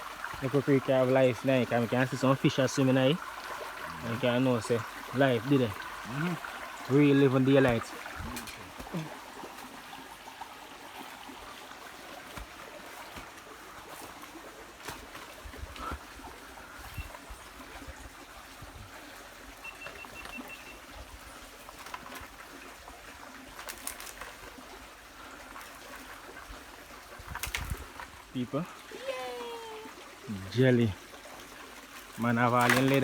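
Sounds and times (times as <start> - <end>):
creek trickling: 0.0 - 33.0.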